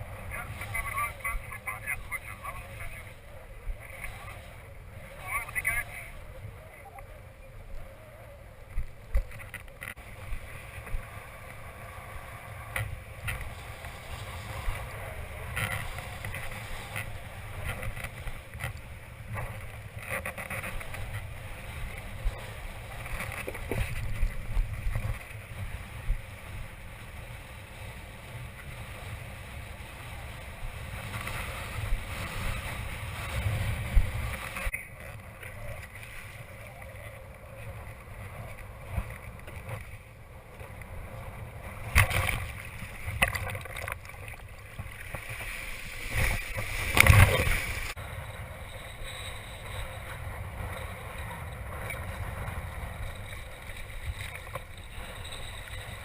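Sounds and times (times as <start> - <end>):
water swishing and splashing: 0.0 - 56.0
wind on microphone: 0.0 - 56.0.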